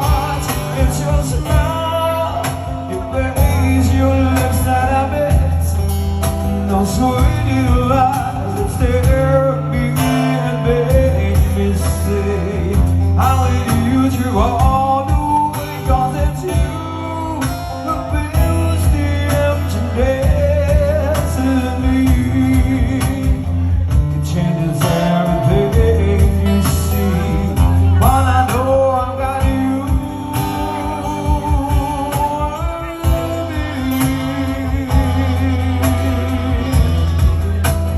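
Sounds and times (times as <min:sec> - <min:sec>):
acoustic guitar: 0:00.0 - 0:37.9
bass: 0:00.0 - 0:37.9
person singing: 0:00.0 - 0:37.9.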